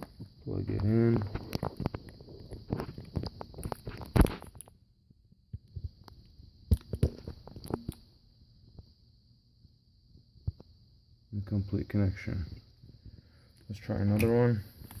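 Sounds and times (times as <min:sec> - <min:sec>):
faint high-pitched hiss: 0:00.0 - 0:15.0.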